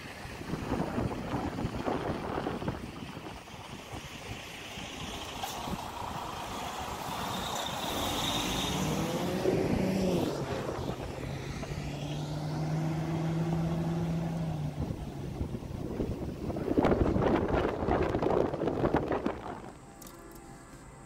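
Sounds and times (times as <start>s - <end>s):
car road and wind noise: 0.0s - 21.0s
low engine hum: 0.0s - 21.0s
truck passing by: 0.0s - 21.0s.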